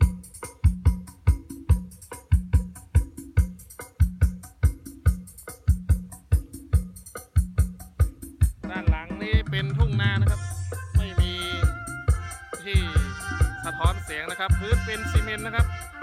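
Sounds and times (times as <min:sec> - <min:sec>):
dance music with heavy kick drum: 0:00.0 - 0:16.0.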